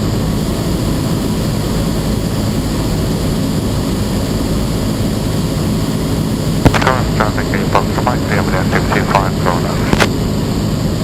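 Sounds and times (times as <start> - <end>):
small plane engine drone: 0.0 - 11.0.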